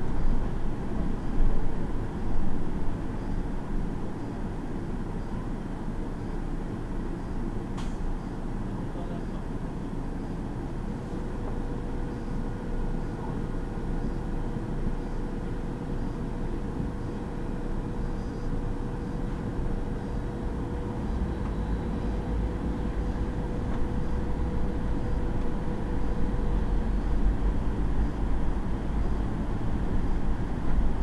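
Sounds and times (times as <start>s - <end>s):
bus engine and road rumble: 0.0s - 31.0s
thin steady whine: 0.0s - 31.0s.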